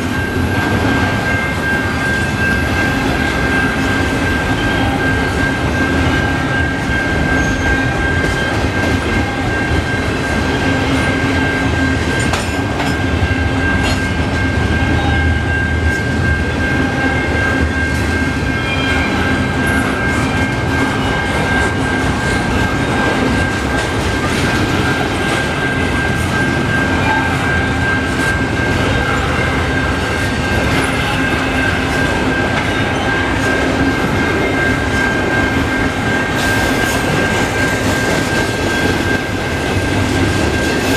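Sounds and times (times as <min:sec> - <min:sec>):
freight train rolling: 0:00.0 - 0:40.9
steady high-pitched tone: 0:00.0 - 0:40.9.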